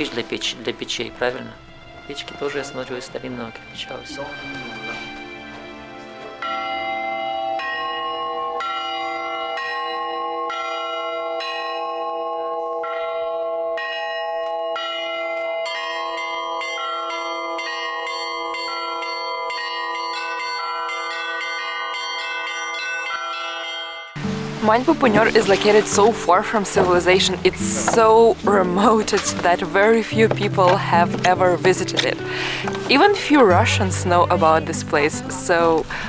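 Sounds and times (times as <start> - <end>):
church bells ringing: 0.0 - 36.0.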